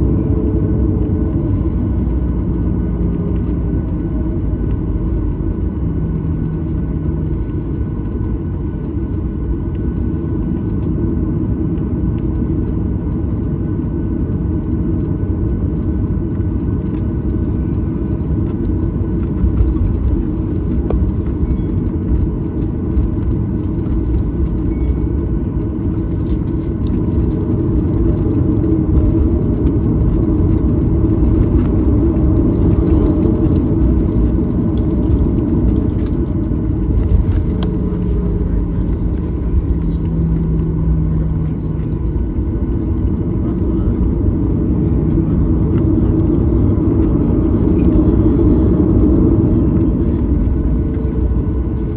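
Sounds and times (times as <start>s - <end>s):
jet engines idling: 0.0s - 51.9s.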